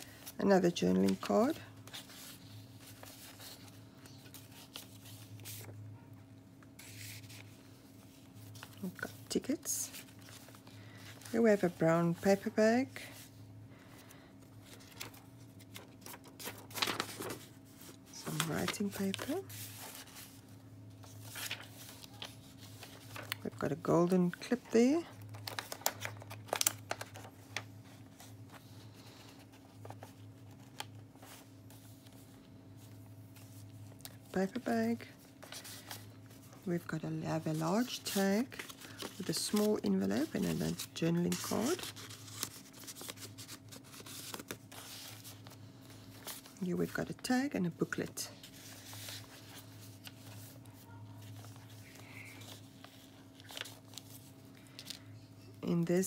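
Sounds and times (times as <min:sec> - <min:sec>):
paper pages rustling: 0:00.0 - 0:05.9, 0:06.6 - 0:55.1
low steady hum: 0:00.0 - 0:56.0.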